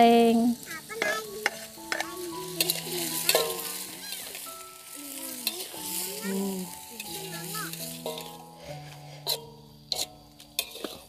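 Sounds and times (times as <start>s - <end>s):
background music: 0.0s - 11.0s
fish sizzling in a pan: 0.0s - 11.0s
spatula scraping a pan: 0.6s - 11.0s.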